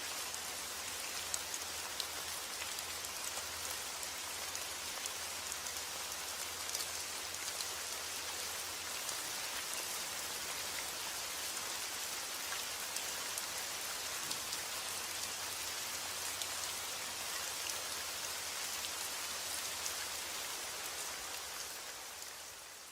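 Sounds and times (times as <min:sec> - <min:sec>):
steady rain hiss: 0:00.0 - 0:22.9
sharp ticks of raindrops: 0:00.1 - 0:22.9.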